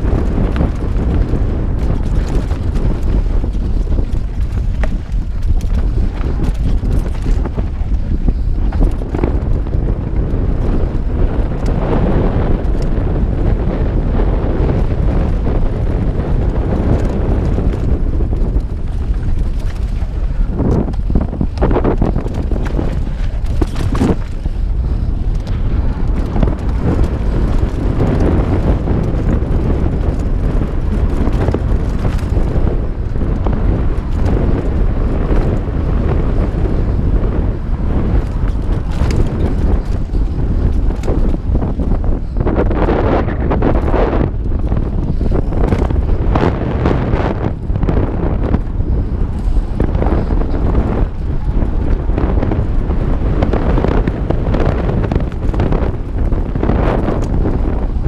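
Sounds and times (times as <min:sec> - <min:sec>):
bike clattering over rough ground: 0:00.0 - 0:58.0
tyre and trail rumble: 0:00.0 - 0:58.0
wind buffeting microphone: 0:00.0 - 0:58.0.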